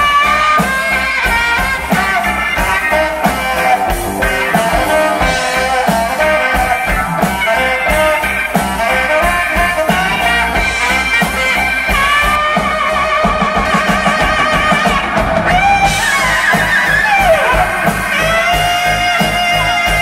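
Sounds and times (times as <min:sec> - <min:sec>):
live rock band playing: 0:00.0 - 0:20.0
saxophone solo: 0:00.0 - 0:20.0.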